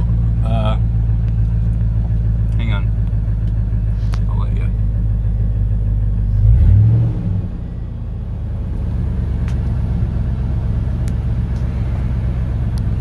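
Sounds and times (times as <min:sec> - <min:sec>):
engine idling inside a cab: 0:00.0 - 0:13.0.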